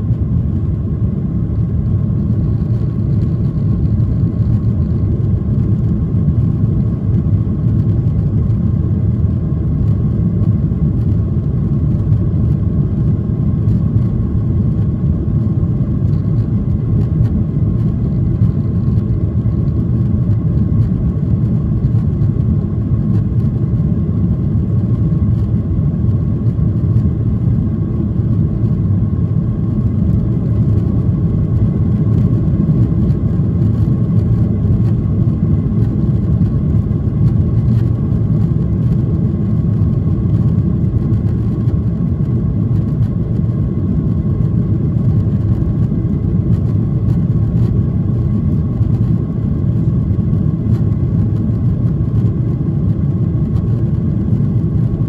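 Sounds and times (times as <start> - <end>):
faint steady whine: 0.0 - 55.0
jet engines rumbling: 0.0 - 55.0.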